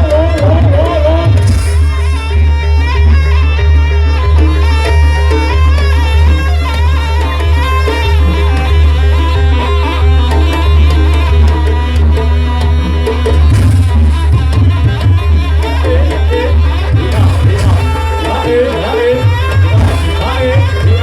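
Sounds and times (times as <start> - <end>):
hand drums: 0.0 - 21.0
heavy bass: 0.0 - 21.0.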